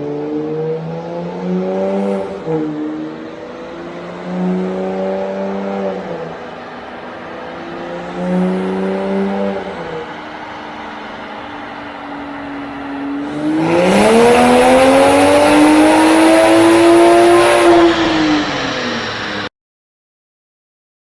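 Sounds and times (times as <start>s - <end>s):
car engine accelerating: 0.0s - 19.5s.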